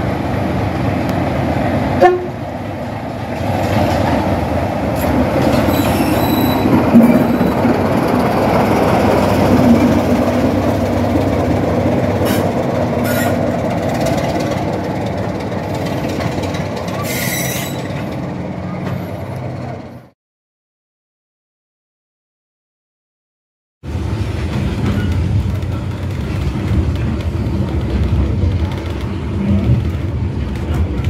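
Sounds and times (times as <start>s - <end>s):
diesel locomotive engine passing: 0.0s - 20.2s, 23.8s - 31.0s.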